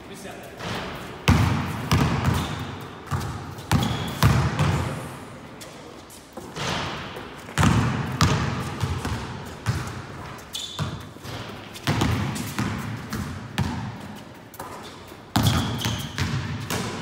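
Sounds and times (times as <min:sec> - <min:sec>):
basketballs bouncing on a court: 0:00.6 - 0:05.0, 0:06.5 - 0:17.0.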